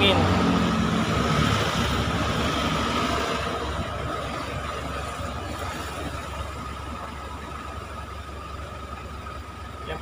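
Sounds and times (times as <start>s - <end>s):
idling engine low hum: 0.0s - 10.0s.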